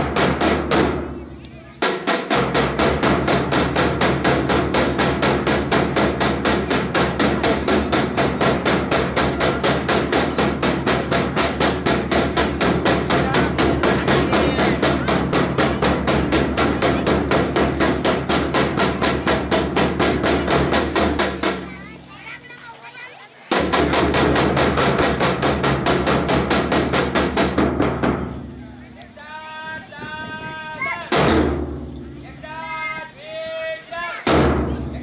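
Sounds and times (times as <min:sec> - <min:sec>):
fast percussive drum beat: 0:00.0 - 0:22.1, 0:23.5 - 0:28.5, 0:30.8 - 0:31.9, 0:34.2 - 0:35.0.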